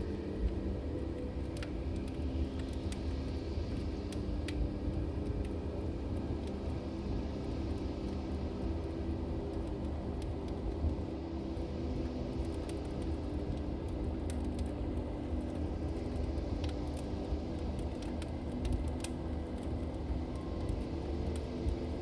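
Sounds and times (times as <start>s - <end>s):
fire crackles and pops: 0.0s - 22.0s
log fire rumbling: 0.0s - 22.0s.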